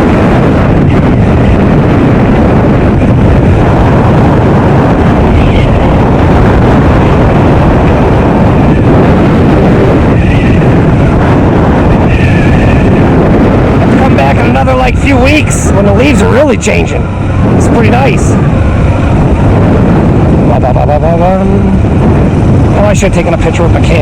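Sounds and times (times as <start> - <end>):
wind noise on microphone: 0.0 - 24.0.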